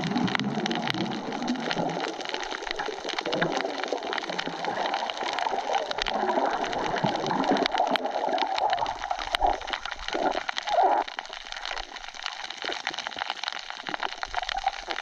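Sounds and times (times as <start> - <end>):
small clicks and crackles: 0.0 - 15.0
water gurgling and splashing: 0.0 - 15.0.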